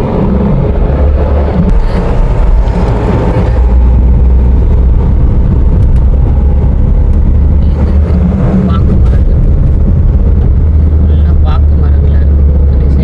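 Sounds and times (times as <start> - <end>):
car road and wind rumble: 0.0 - 13.0.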